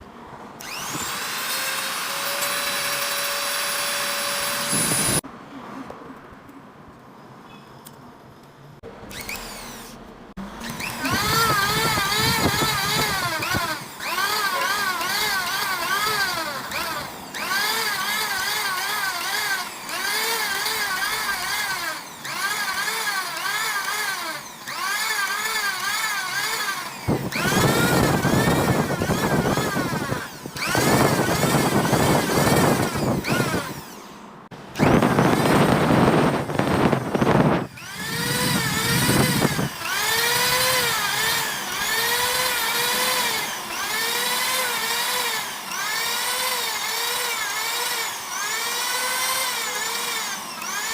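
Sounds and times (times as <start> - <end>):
power sander whining: 0.6 - 5.2, 9.1 - 50.9.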